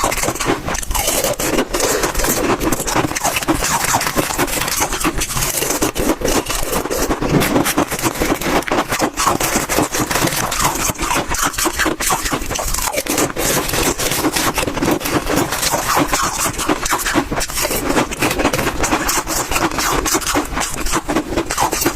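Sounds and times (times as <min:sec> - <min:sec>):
frost crunching as chewed: 0:00.0 - 0:21.9.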